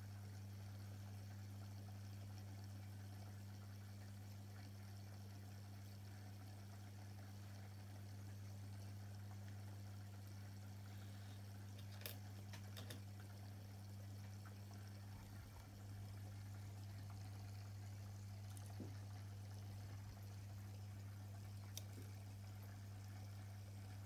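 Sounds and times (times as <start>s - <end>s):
aquarium pump humming: 0.0s - 24.0s
faint water trickling: 0.0s - 24.0s.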